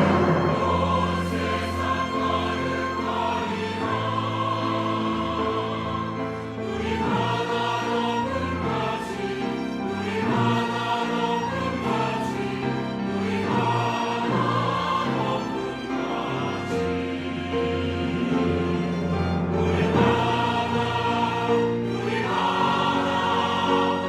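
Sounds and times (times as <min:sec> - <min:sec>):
church choir singing: 0:00.0 - 0:24.0.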